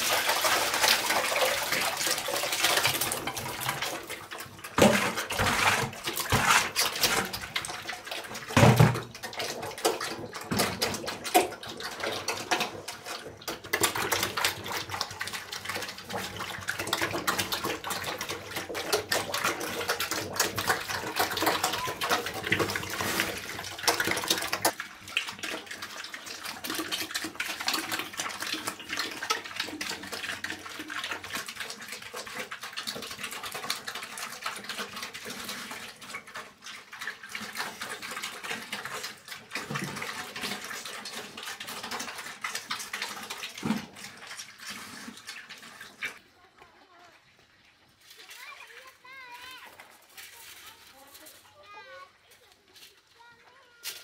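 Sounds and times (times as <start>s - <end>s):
pigs eating noisily: 0.0s - 54.0s
wet mash poured into trough: 0.0s - 54.0s.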